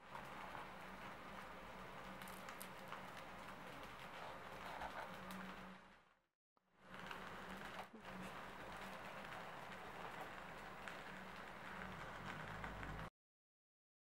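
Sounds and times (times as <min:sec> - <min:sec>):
flatbread crust crackling: 0:00.0 - 0:06.0, 0:06.8 - 0:13.1.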